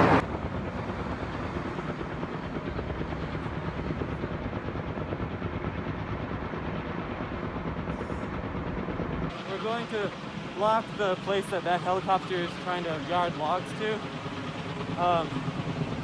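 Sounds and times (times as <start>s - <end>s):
helicopter engine noise: 0.0s - 16.0s
helicopter rotor chopping: 0.0s - 16.0s.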